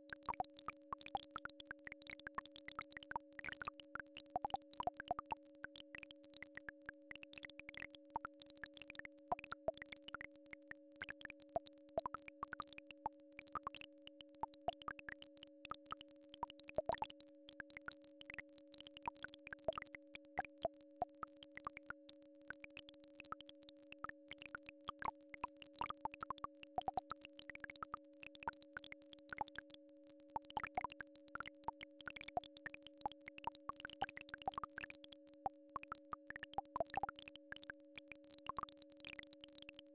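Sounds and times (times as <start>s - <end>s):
drip-like plinks: 0.0s - 39.9s.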